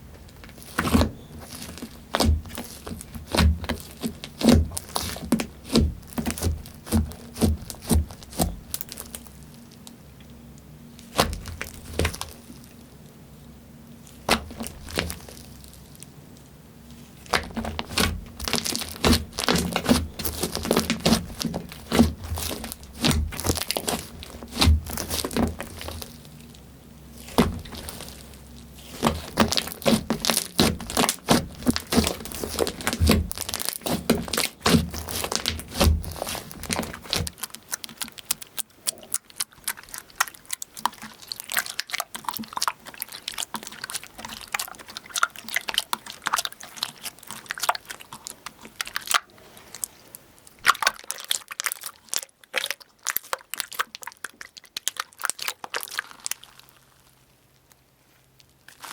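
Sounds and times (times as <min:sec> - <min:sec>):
crunchy material cracking: 0:00.0 - 0:10.0, 0:10.9 - 0:12.9, 0:13.9 - 0:16.1, 0:16.8 - 0:58.9.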